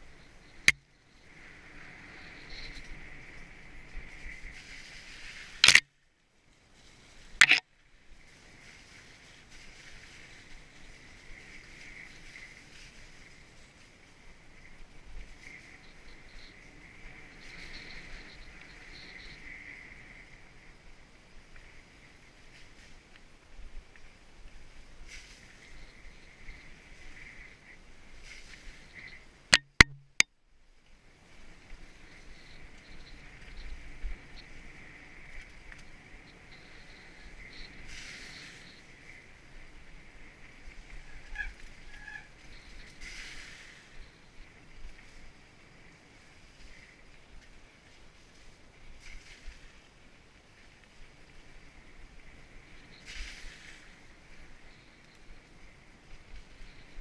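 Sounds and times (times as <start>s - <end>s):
mountain bike rolling on wet trail: 0.0s - 29.5s, 30.6s - 57.0s.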